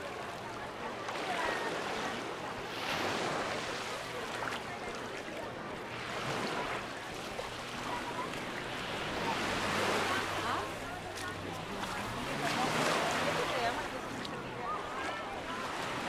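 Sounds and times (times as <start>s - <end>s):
people chattering: 0.0s - 16.0s
small waves washing up beach: 0.0s - 16.0s.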